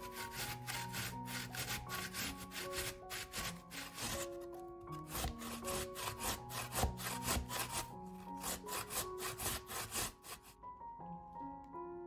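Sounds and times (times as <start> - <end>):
potato grated on metal grater: 0.0 - 10.5
soft background music: 0.0 - 12.0.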